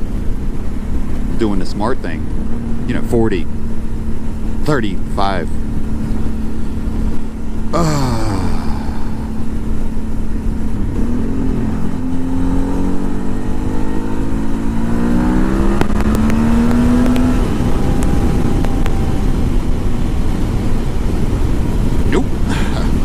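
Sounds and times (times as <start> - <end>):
motorcycle engine accelerating: 0.0 - 23.0
road rumble: 0.0 - 23.0
wind: 0.0 - 23.0.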